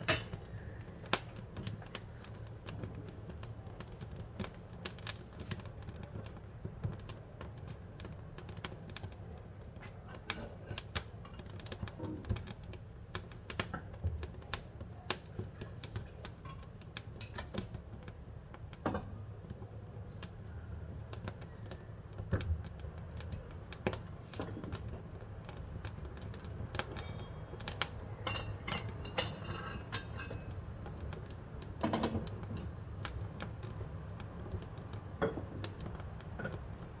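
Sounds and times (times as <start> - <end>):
low rumble of burning fire: 0.0 - 37.0
wood fire crackling and popping: 0.0 - 37.0.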